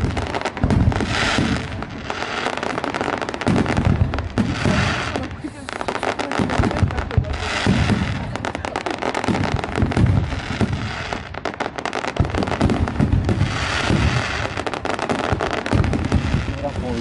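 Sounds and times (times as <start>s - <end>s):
fireworks cracking and banging: 0.0s - 17.0s.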